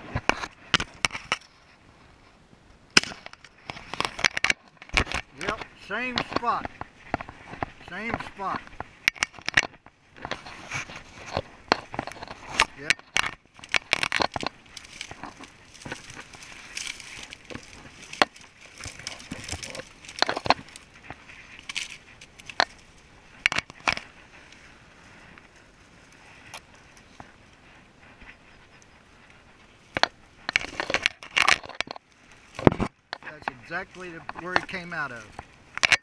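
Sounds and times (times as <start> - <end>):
dry weeds crackling and snapping: 0.0 - 36.0
rustling against clothing: 0.0 - 36.0.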